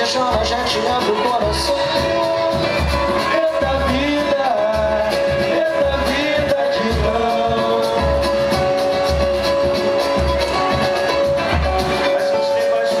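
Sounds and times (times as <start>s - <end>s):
deep drum beat: 0.0s - 13.0s
samba band playing: 0.0s - 13.0s.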